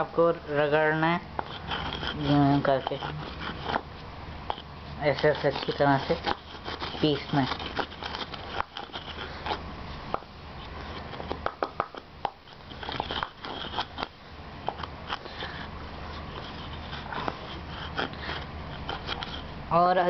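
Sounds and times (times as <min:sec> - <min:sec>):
pestle grinding in stone mortar: 0:00.0 - 0:20.0.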